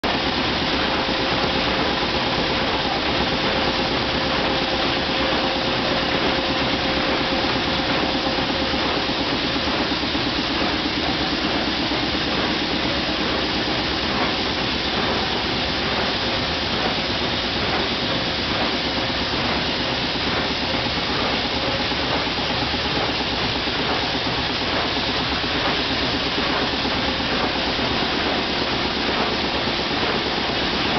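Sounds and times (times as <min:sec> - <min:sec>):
steam engine clatter and hiss: 0:00.1 - 0:30.9.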